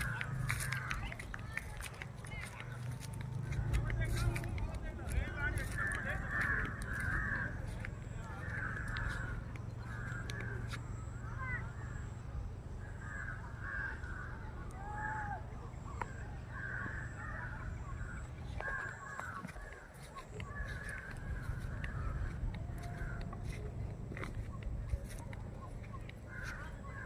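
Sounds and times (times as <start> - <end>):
crows cawing: 0.0 - 4.4, 5.1 - 11.6, 12.8 - 15.2, 16.4 - 25.2, 26.3 - 27.0.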